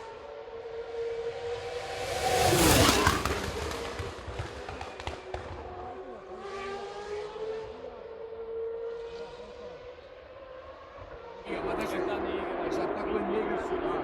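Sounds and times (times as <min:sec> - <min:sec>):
distant race cars running: 0:00.0 - 0:14.0
racing car passing by: 0:00.0 - 0:14.0.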